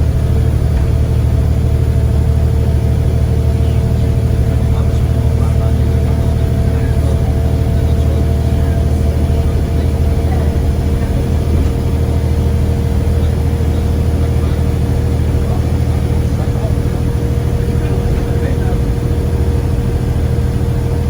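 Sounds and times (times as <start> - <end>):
bus engine droning: 0.0 - 21.0
high engine whine: 0.0 - 21.0.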